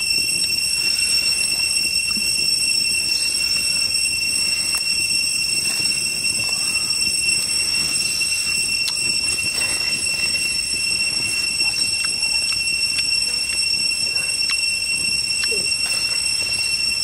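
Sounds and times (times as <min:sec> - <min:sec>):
cicadas whining: 0:00.0 - 0:17.0.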